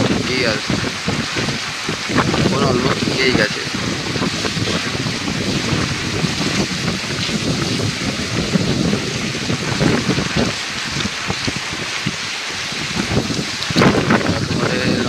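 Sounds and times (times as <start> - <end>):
torrential rain pouring: 0.0 - 15.0
wind buffeting microphone: 0.0 - 15.0.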